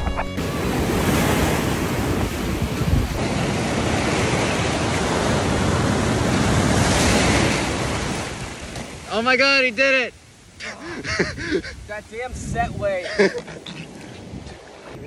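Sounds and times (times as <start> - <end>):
ocean surf breaking: 0.0 - 15.0
wind buffeting microphone: 0.4 - 9.1, 10.3 - 15.0.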